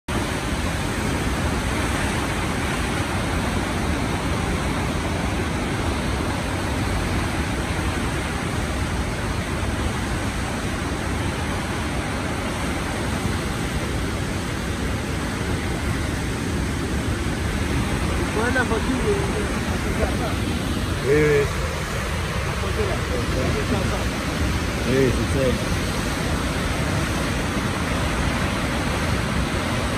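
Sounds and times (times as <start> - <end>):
whitewater rapids rushing: 0.1 - 29.9.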